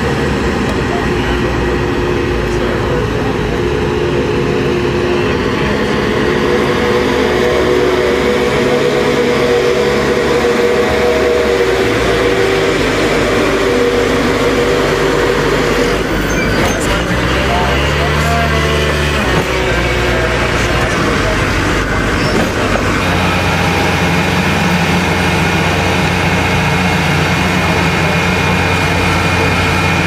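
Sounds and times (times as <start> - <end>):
cargo loader engine drone: 0.0 - 30.0.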